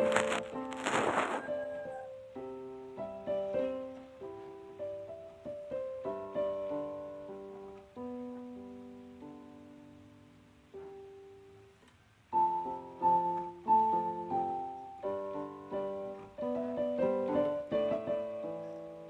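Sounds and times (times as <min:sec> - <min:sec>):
piano music: 0:00.0 - 0:11.6, 0:12.3 - 0:19.0.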